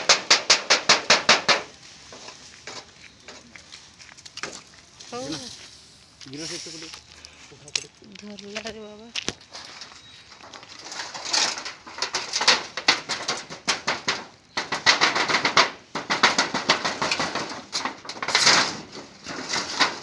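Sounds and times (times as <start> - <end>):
food crackling on hot metal: 0.0 - 20.0.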